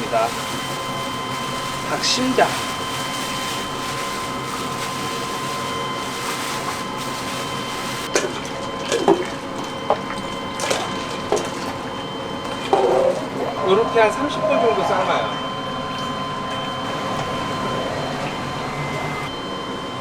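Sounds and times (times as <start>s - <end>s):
kitchen machinery hum: 0.0s - 20.0s.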